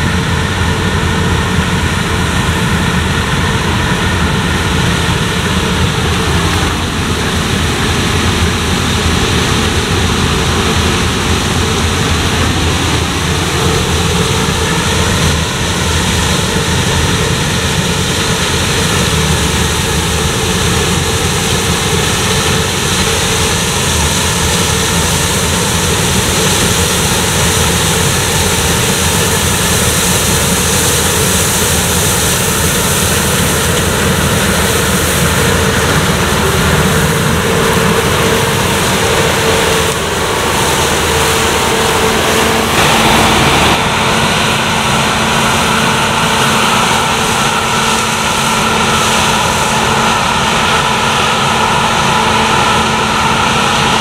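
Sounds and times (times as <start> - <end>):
combine harvester drone: 0.0 - 54.0.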